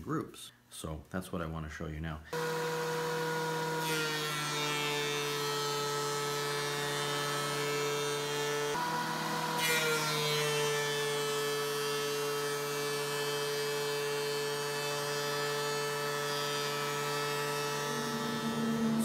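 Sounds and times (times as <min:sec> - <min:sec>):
planer cutting wood: 0:02.3 - 0:19.0
thickness planer motor whine: 0:02.3 - 0:19.0.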